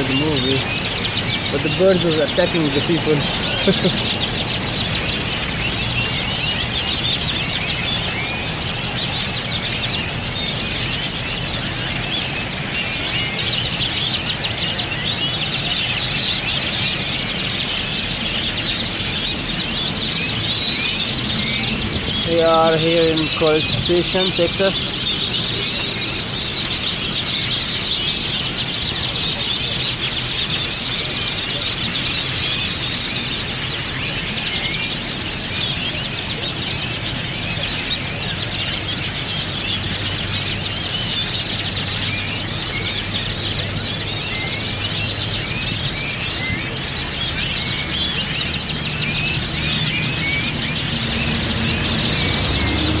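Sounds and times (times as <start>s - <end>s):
flock of birds chirping: 0.0s - 53.0s.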